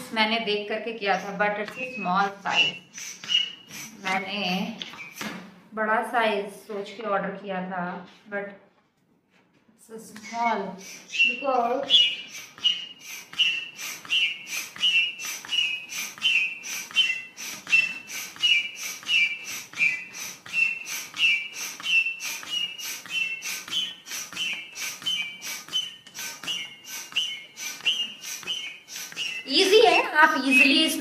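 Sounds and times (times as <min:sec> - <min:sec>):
foot pump whistling strokes: 0:00.0 - 0:05.6, 0:10.0 - 0:31.0.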